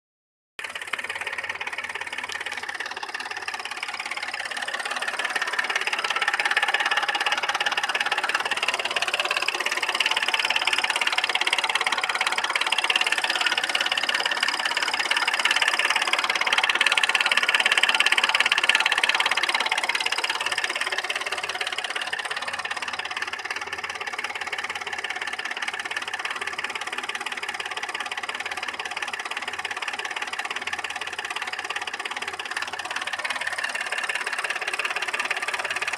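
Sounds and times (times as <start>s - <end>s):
car engine knocking: 0.6s - 35.9s.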